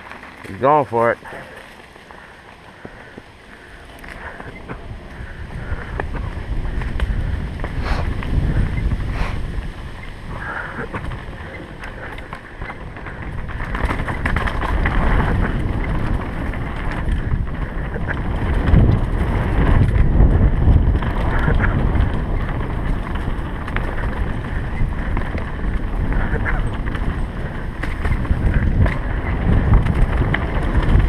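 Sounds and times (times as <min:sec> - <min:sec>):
scattered clatter: 0:00.0 - 0:31.0
wind buffeting microphone: 0:00.6 - 0:31.0.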